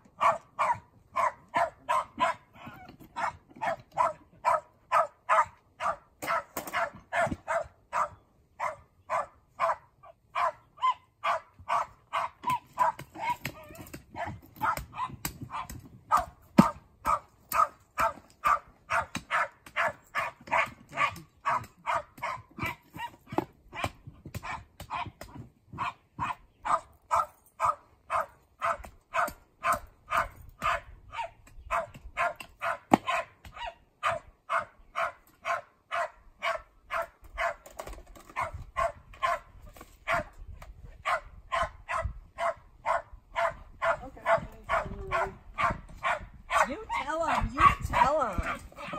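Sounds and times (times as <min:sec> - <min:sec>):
dog barking: 0:00.2 - 0:25.2, 0:25.8 - 0:37.6, 0:38.3 - 0:40.3, 0:41.0 - 0:48.9.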